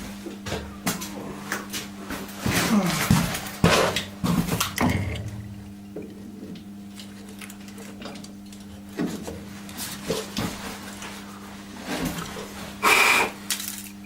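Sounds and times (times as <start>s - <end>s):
electric motor hum: 0.3s - 14.0s.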